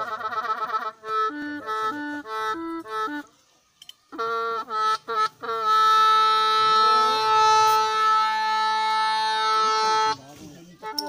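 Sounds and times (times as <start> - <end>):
bamboo pipe playing: 0.0 - 11.0.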